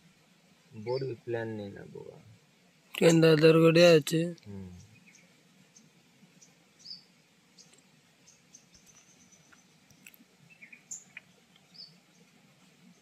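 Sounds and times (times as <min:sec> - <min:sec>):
small birds chirping: 0:00.8 - 0:02.2, 0:02.8 - 0:13.0.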